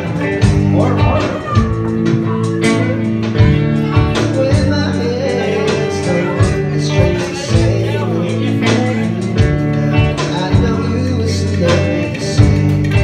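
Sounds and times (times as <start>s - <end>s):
live band with electric guitars: 0.0s - 13.0s.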